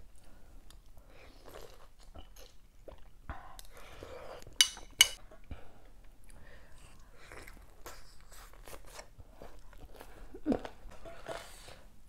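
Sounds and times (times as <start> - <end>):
person chewing food: 0.1 - 5.5, 6.1 - 11.8.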